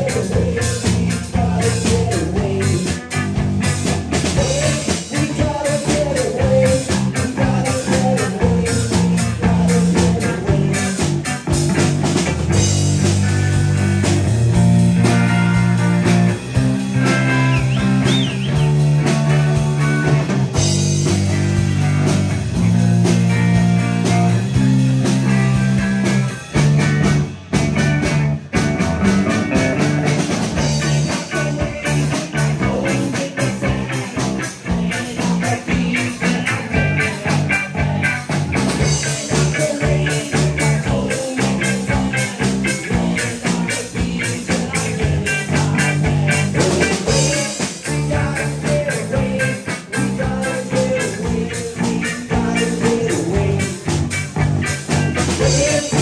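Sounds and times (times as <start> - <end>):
fast steady drum beat: 0.0 - 56.0
rock band playing: 0.0 - 56.0.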